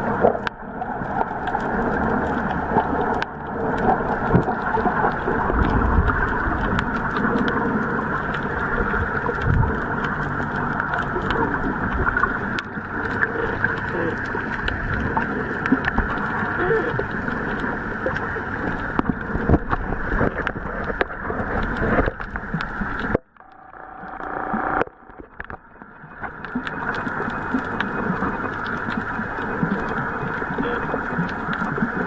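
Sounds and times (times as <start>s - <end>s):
low hum: 0.0s - 31.8s
muffled rush of water: 0.0s - 32.0s.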